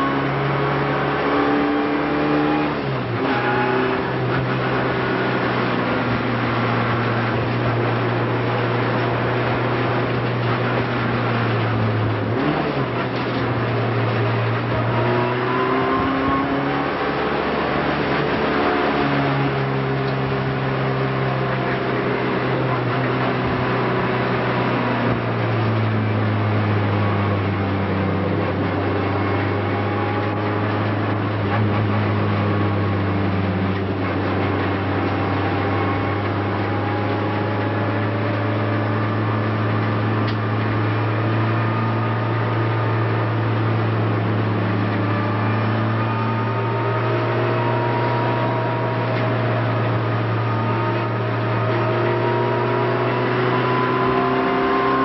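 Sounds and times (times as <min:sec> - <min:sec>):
race car engine drone: 0:00.0 - 0:55.0.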